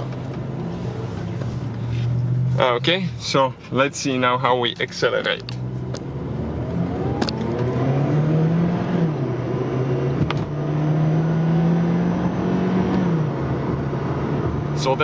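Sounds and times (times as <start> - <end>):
car engine accelerating: 0.0 - 3.4, 5.3 - 15.0.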